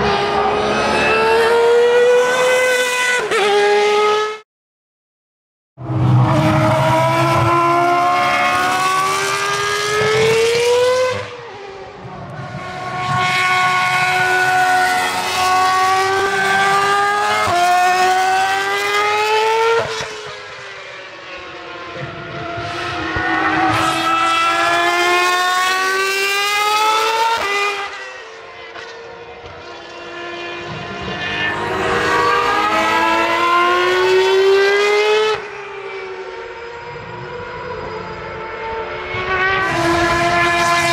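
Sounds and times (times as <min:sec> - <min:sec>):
racing car engines at full throttle: 0:00.0 - 0:04.4, 0:05.8 - 0:40.9.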